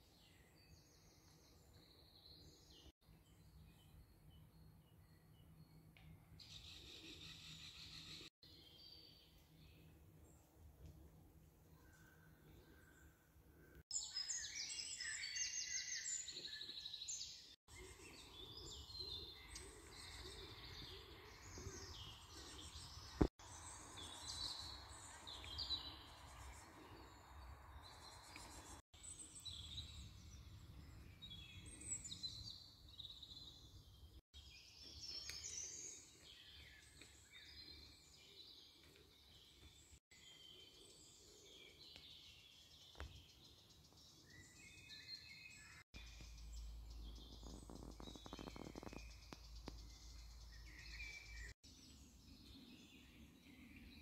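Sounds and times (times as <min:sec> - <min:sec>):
birds chirping and trilling: 0:00.1 - 0:10.0, 0:11.7 - 0:54.0.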